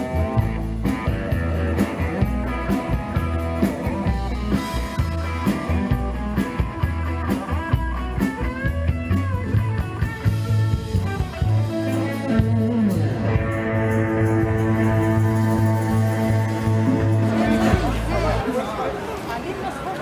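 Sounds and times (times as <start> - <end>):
bass guitar: 0.0 - 18.6
electric guitar lead: 0.0 - 18.6
drums: 0.0 - 19.0.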